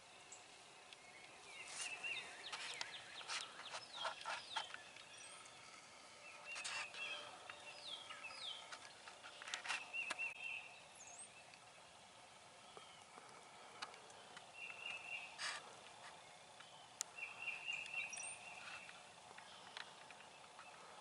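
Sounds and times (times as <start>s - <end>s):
wild birds chirping and whistling: 0.0s - 21.0s.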